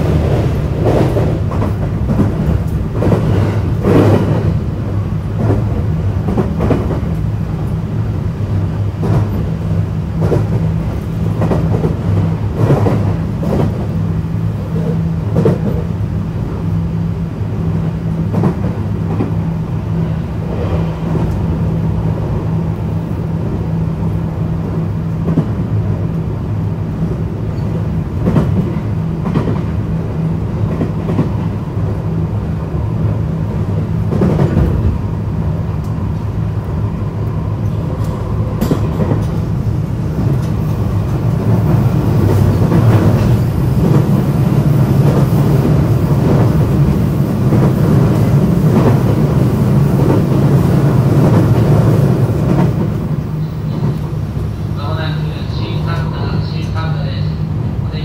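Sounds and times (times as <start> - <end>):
rail joint clicks: 0.0 - 16.8, 17.8 - 57.0
train wheels rumbling: 0.0 - 58.0.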